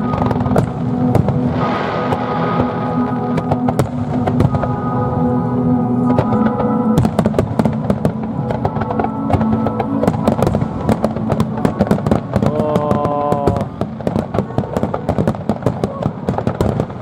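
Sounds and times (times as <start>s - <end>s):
music with held chords: 0.0s - 16.9s
fireworks bursting and crackling: 0.0s - 17.0s.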